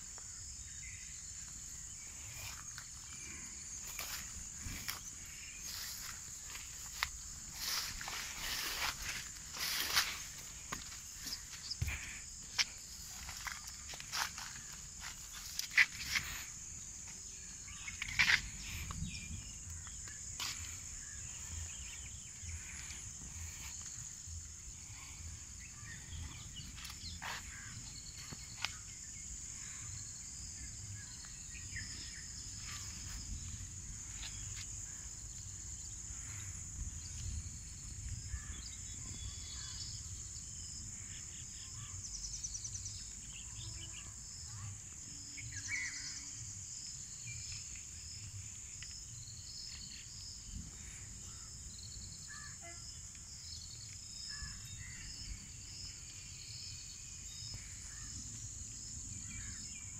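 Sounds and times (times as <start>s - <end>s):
shrill insect chorus: 0.0s - 59.9s.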